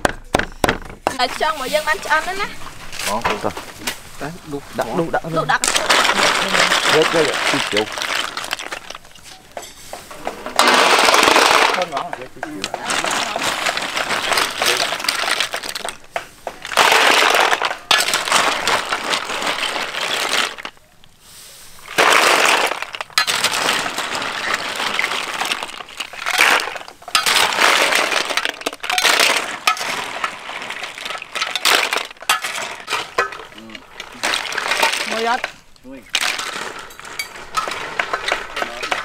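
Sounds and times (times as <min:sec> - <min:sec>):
snail shells clattering in metal wok: 0:05.5 - 0:20.8, 0:21.8 - 0:39.0.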